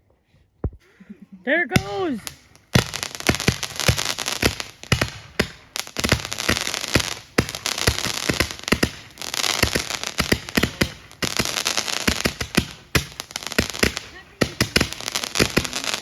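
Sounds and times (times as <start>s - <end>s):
fireworks hissing: 1.7s - 16.0s
fireworks popping and crackling: 1.7s - 16.0s.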